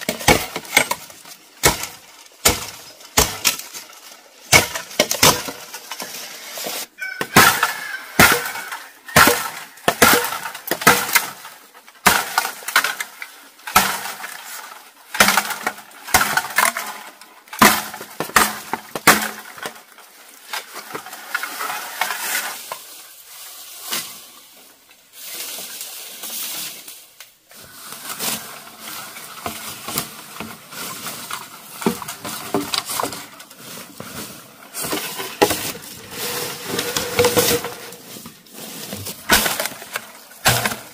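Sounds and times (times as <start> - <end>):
bamboo cracking: 0.0 - 40.9.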